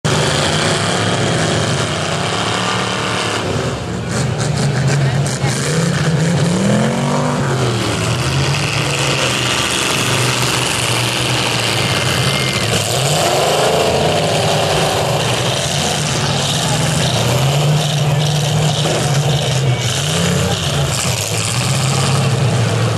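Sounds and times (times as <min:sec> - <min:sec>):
car engines droning: 0:00.0 - 0:22.9
engines revving: 0:00.0 - 0:22.9.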